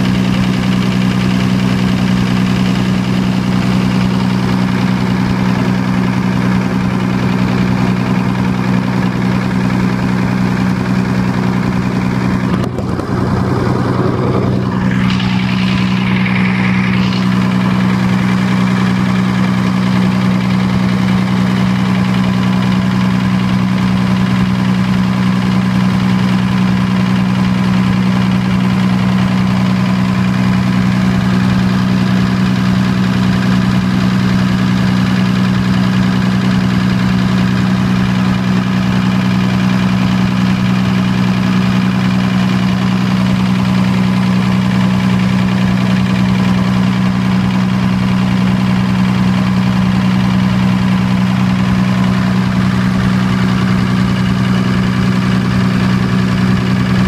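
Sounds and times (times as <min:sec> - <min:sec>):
diesel generator running: 0:00.0 - 0:57.0.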